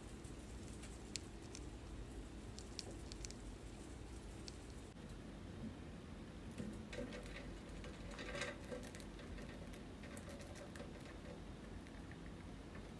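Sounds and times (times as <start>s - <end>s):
hamster gnawing: 0.0s - 5.0s, 6.5s - 12.9s.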